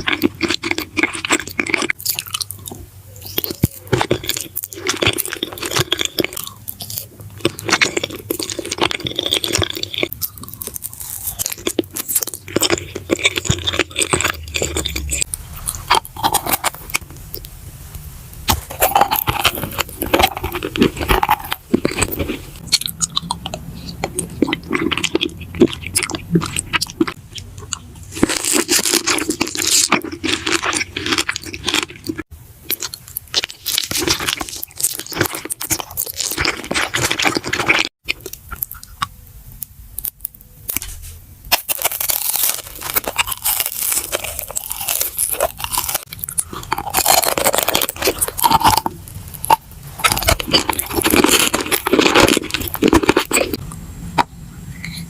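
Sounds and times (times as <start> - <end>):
crisp crunching and chewing: 0.0 - 17.5, 18.4 - 55.0.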